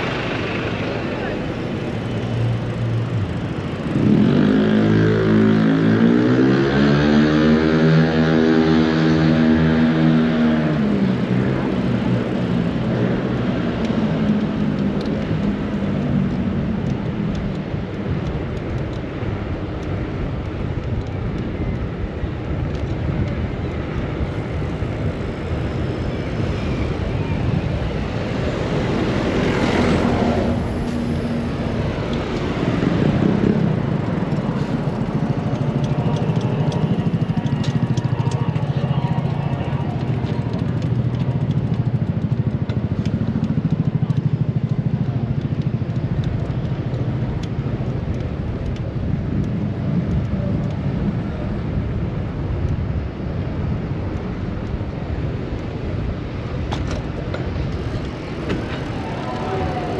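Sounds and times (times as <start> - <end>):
engine hum: 0.0 - 59.9
road noise: 0.0 - 59.9
vehicles passing close: 0.0 - 59.9.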